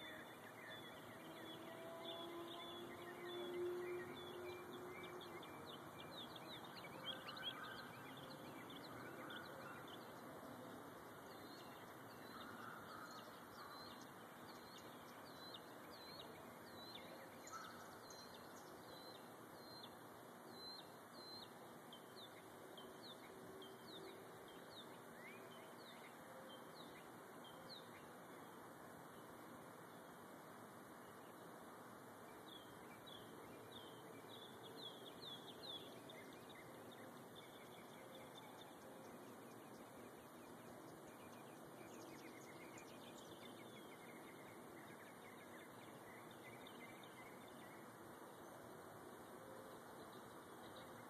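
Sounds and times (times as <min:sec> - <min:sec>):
faint songbirds chirping: 0:00.0 - 0:51.0.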